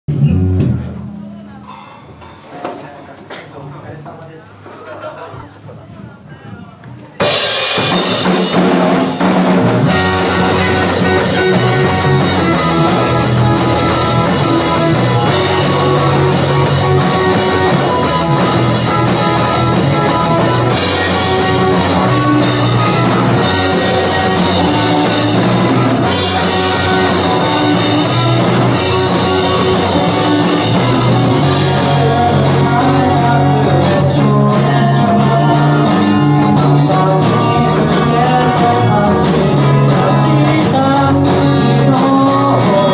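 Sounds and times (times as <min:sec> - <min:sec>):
bass guitar: 0:00.0 - 0:02.4, 0:06.8 - 0:42.9
electric guitars: 0:00.1 - 0:02.2, 0:07.2 - 0:42.9
drum kit: 0:00.1 - 0:02.9, 0:07.1 - 0:42.9.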